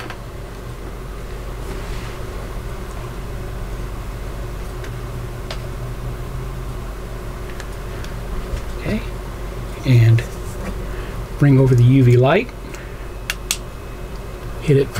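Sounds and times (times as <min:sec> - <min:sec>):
low mechanical hum: 0:00.0 - 0:14.9.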